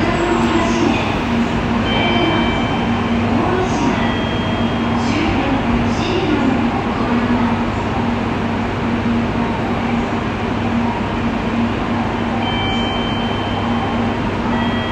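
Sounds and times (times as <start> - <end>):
station noise: 0.0 - 14.9
train rumble and hum: 0.0 - 14.9.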